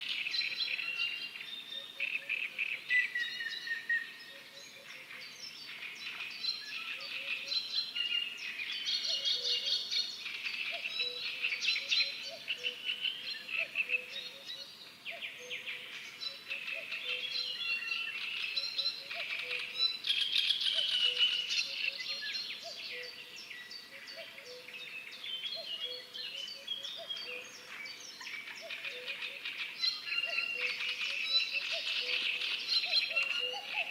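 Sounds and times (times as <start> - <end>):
birds chirping and trilling: 0.0 - 33.9.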